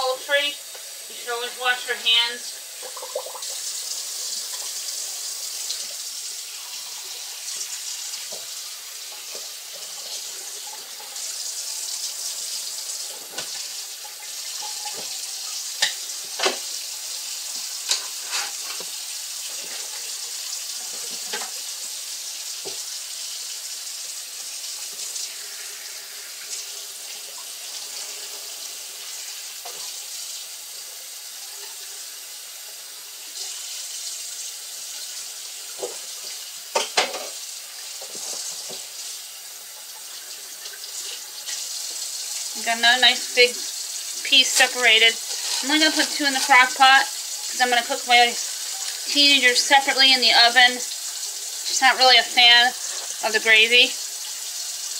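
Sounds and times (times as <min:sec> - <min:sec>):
tap water running into sink: 0:00.1 - 0:54.9.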